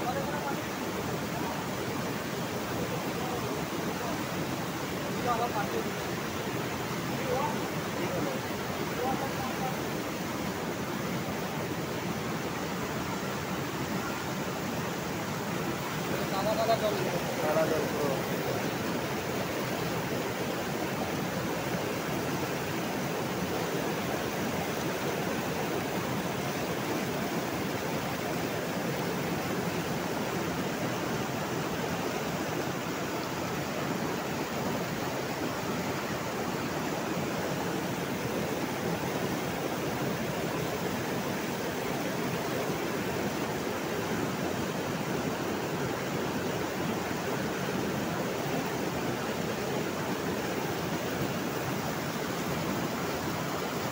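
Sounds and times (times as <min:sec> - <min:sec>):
water rushing and cascading: 0:00.0 - 0:53.9.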